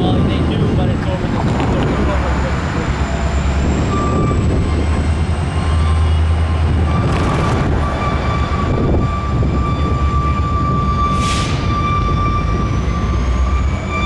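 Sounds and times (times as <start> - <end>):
locomotive engine rumble: 0.0 - 14.0.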